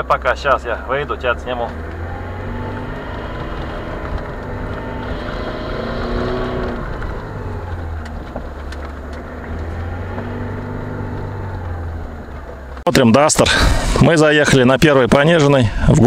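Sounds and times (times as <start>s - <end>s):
car engine droning under load: 0.0s - 14.1s.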